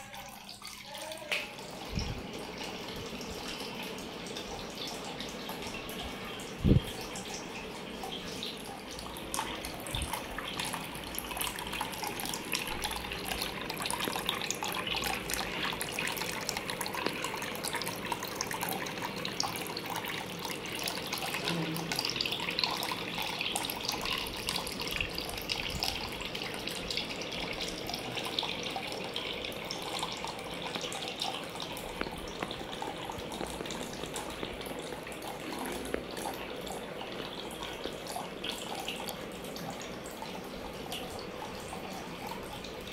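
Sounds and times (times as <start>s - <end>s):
water trickling into aquarium: 0.0s - 42.9s.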